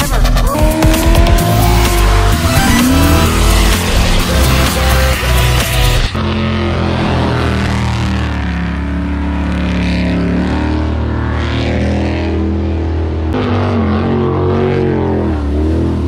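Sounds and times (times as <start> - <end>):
boat engine at high revs: 0.0 - 16.0.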